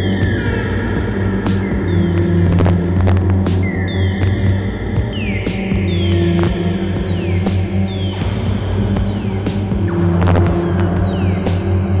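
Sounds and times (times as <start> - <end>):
low bass drone: 0.0 - 12.0
percussive drum machine hits: 0.2 - 12.0.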